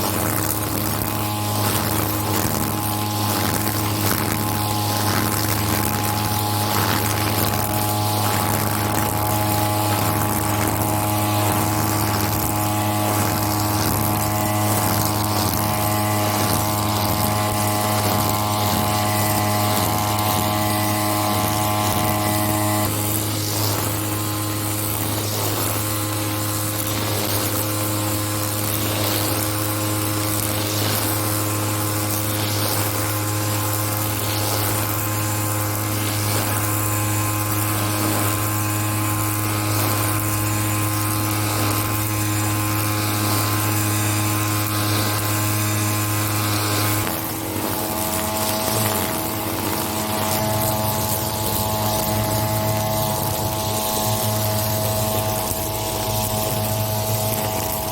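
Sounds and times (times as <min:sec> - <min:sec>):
brush cutter running: 0:00.0 - 0:57.9.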